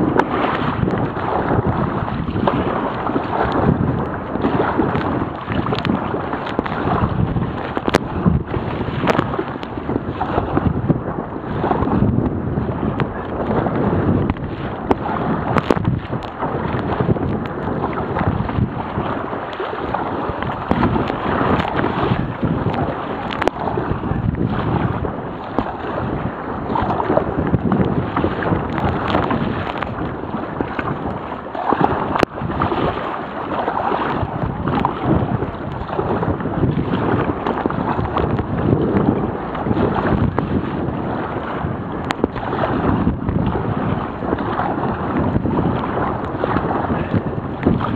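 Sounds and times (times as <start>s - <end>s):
waves and water splashing: 0.0s - 47.9s
wind buffeting microphone: 0.0s - 47.9s.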